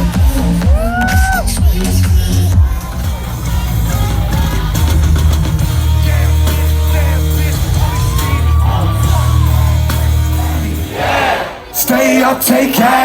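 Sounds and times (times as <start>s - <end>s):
heavy bass: 0.0s - 11.8s
loud live concert music: 0.0s - 13.0s
voices shouting and singing: 0.0s - 13.0s.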